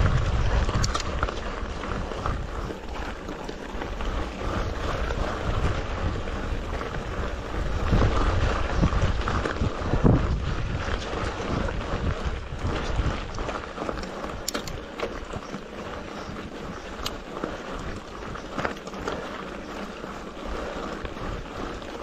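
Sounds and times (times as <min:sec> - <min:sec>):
bike tyres rumbling and rattling: 0:00.0 - 0:22.0
wind buffeting microphone: 0:00.0 - 0:22.0.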